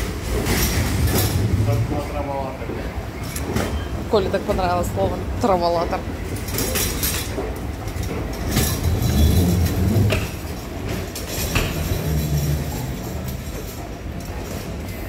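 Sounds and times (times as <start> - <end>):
shopping cart wheels rattling: 0.0 - 15.0.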